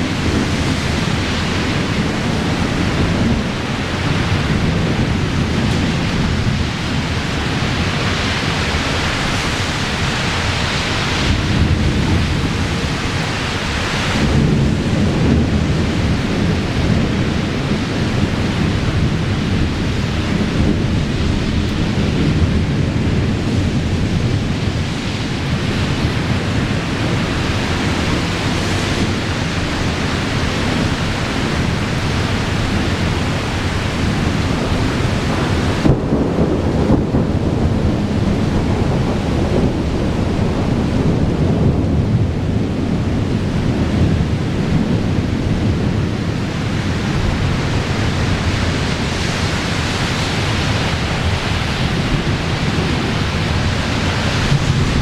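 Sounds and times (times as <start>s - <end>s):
rain hiss: 0.0s - 55.0s
thunder rumbling: 0.0s - 55.0s.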